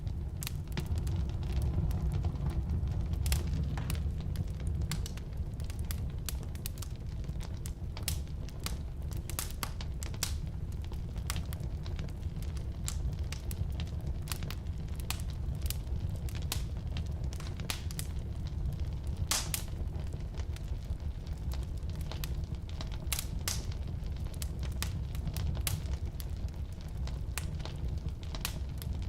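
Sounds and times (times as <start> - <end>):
firewood popping and crackling: 0.0 - 29.0
low rumble of flames: 0.0 - 29.0.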